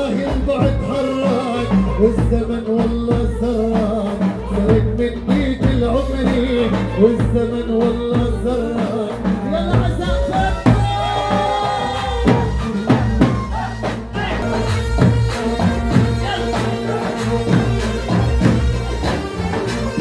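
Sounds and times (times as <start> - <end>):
heavy bass: 0.0 - 20.0
large drum beating: 0.0 - 20.0.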